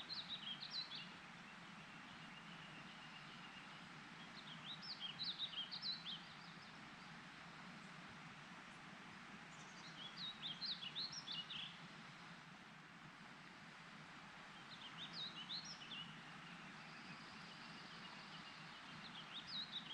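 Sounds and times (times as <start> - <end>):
faint outdoor hiss: 0.0 - 19.9.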